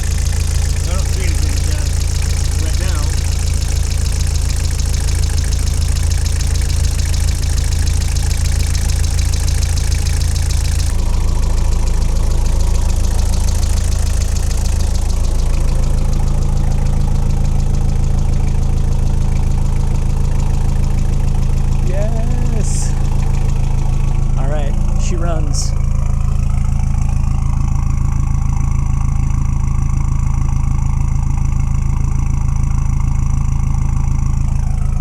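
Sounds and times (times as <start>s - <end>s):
diesel engine idling with clatter: 0.0s - 35.0s.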